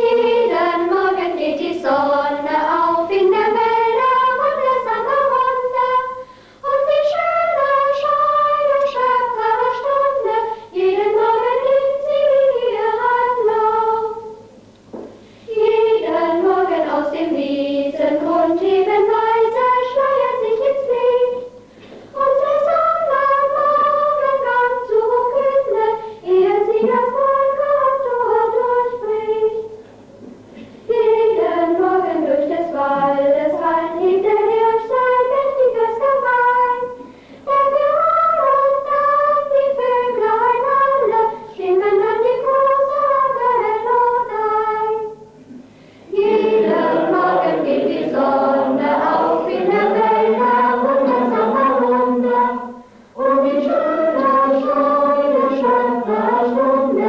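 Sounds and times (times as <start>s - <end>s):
choir of high voices singing: 0.0s - 14.4s, 15.5s - 21.6s, 22.2s - 29.7s, 30.9s - 45.2s, 46.1s - 57.0s.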